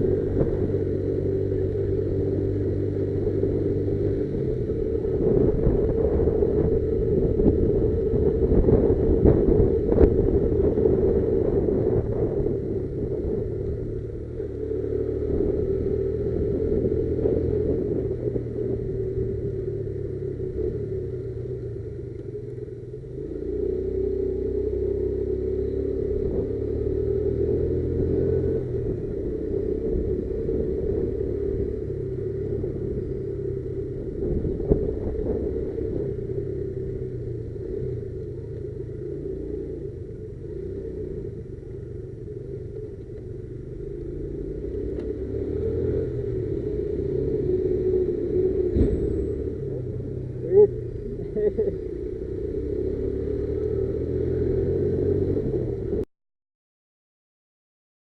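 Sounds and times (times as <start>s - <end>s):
motorcycle engine running: 0.0s - 56.1s.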